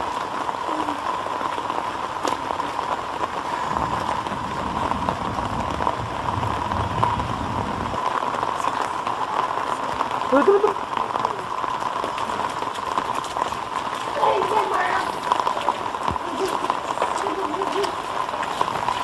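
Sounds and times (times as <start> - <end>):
rain falling on puddles: 0.0 - 19.0.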